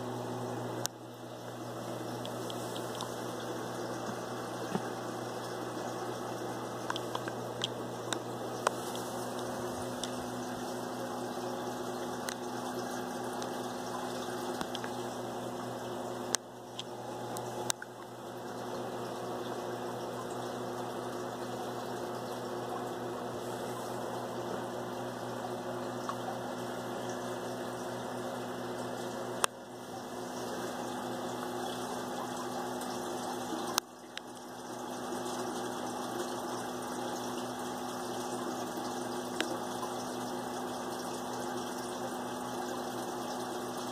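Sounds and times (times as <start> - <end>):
water pump humming: 0.0 - 43.9
moving water: 0.3 - 43.9.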